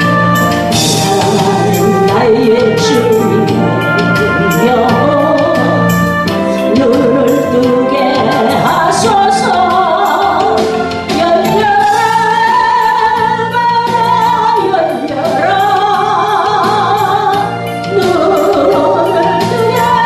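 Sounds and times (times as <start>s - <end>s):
instrumental accompaniment with beat: 0.0s - 20.0s
person singing with vibrato: 0.0s - 20.0s.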